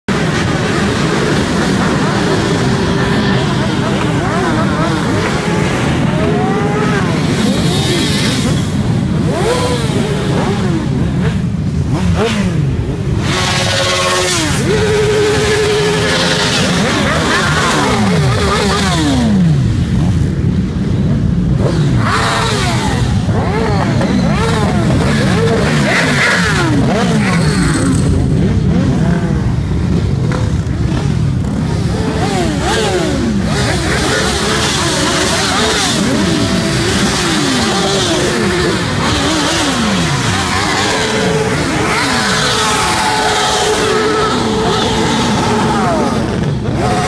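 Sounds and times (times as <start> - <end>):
motorcycles revving past: 0.1 - 47.0.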